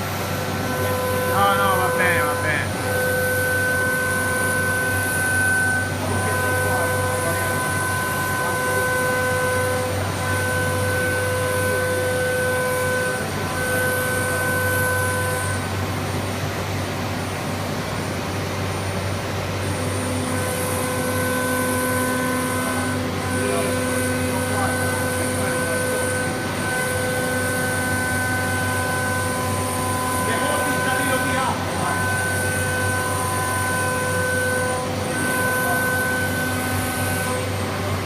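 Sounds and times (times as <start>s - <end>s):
machine mechanical hum: 0.0s - 38.0s
pitched cutting whine: 0.0s - 38.0s.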